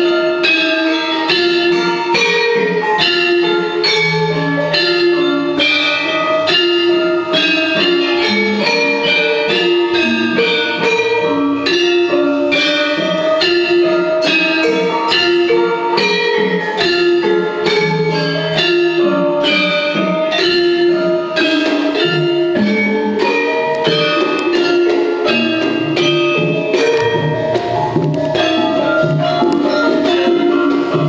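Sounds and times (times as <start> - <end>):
gamelan metallophones and gongs: 0.0 - 31.0
hand drum strokes: 0.0 - 31.0.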